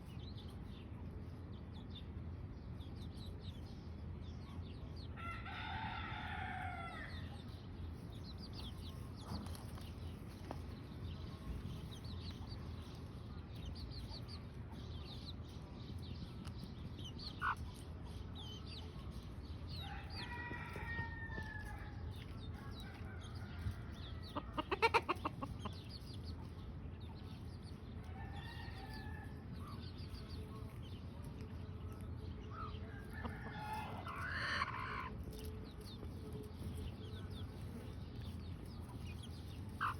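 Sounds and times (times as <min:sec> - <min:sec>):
chicks peeping: 0:00.0 - 0:39.9
chicken clucking: 0:04.4 - 0:39.9.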